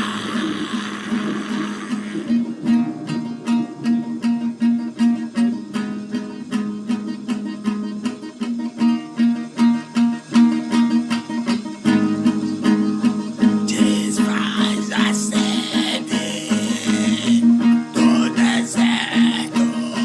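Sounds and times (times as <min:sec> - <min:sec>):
bright hissy wash: 0:00.0 - 0:20.0
strummed guitar: 0:00.0 - 0:20.0.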